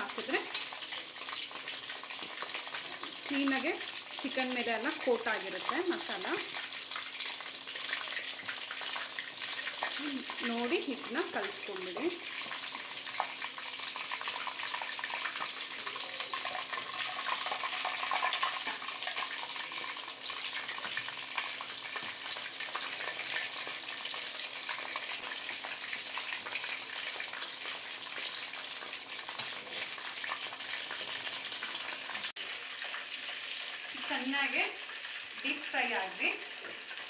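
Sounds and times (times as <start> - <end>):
chicken deep-frying in hot oil: 0.0 - 37.0.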